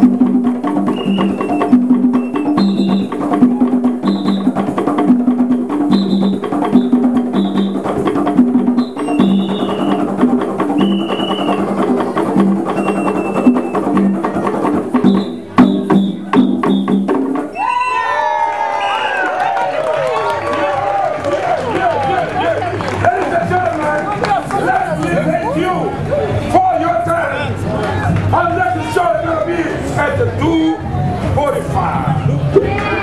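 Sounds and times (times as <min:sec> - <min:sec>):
hand drums ensemble playing: 0:00.0 - 0:18.0, 0:19.3 - 0:33.0.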